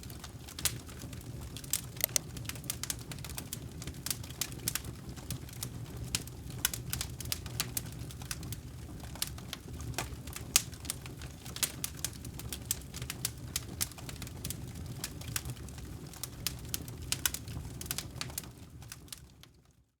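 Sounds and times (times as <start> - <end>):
fire crackling and popping: 0.0 - 19.7.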